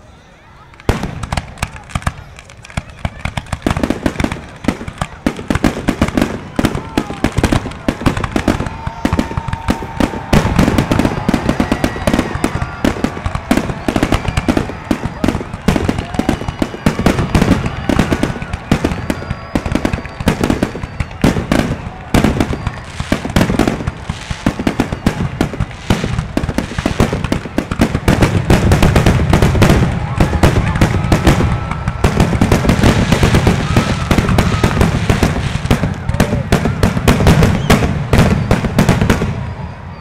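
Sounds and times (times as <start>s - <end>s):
fireworks bangs and crackles: 0.6s - 40.0s.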